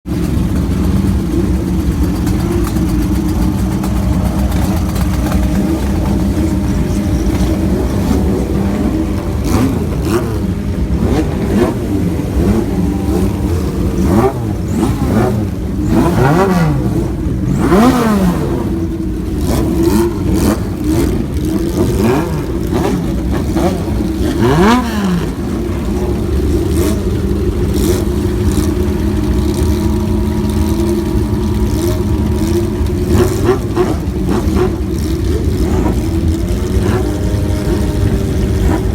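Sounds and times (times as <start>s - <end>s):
motorcycle engine revs: 0.1s - 38.9s
motorcycle engines idling: 0.1s - 38.9s.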